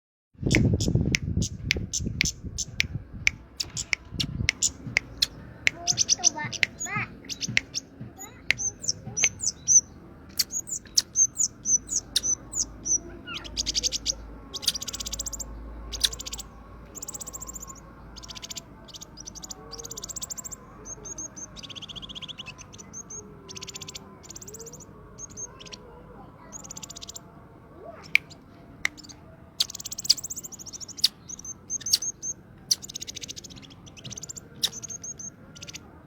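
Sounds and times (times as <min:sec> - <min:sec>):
songbird singing: 0:00.4 - 0:36.0.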